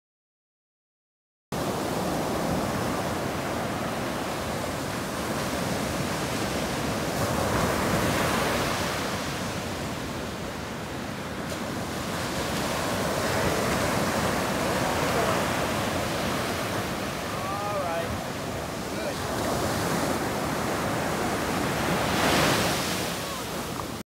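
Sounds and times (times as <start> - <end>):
waves breaking on beach: 1.6 - 24.0.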